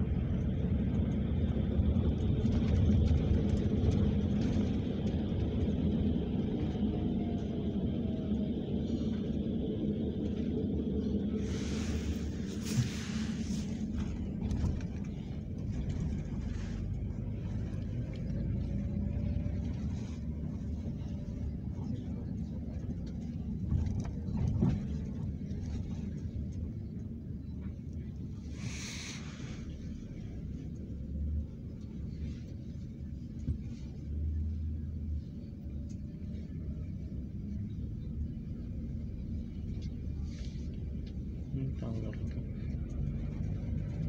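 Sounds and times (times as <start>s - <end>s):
vehicle interior rumble: 0.0s - 44.0s.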